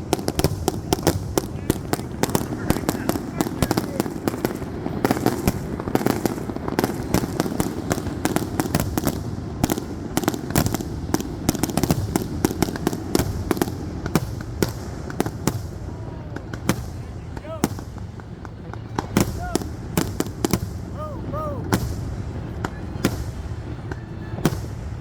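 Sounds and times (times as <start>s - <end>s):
fireworks cracks and bangs: 0.0s - 25.0s.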